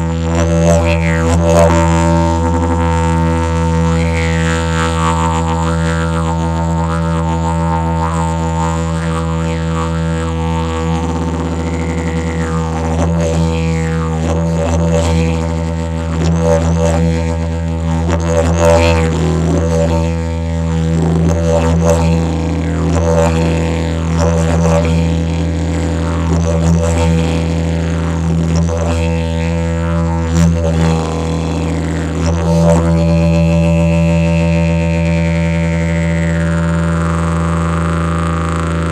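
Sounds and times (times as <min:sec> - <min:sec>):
didgeridoo low drone: 0:00.0 - 0:38.9.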